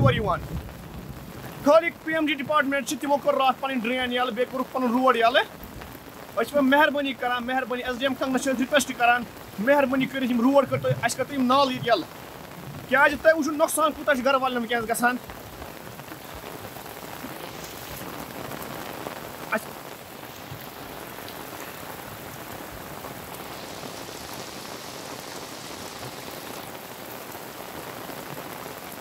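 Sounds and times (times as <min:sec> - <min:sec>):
floodwater running over road: 0:00.0 - 0:29.0
heavy rain hissing: 0:00.0 - 0:29.0.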